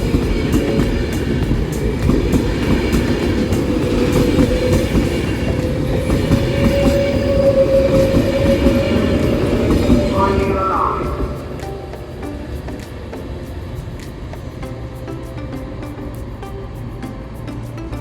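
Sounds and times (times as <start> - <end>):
wheels clicking over rail joints: 0.0 - 18.0.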